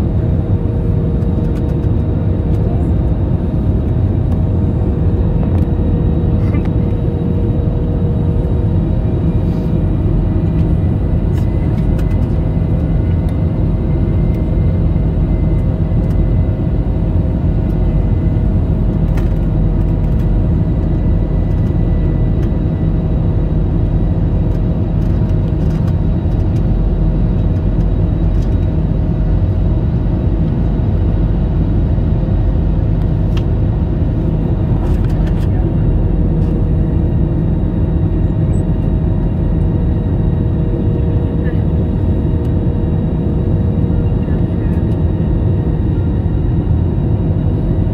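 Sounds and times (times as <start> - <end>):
airliner cabin engine rumble: 0.0 - 47.9
faint steady whines: 0.0 - 47.9.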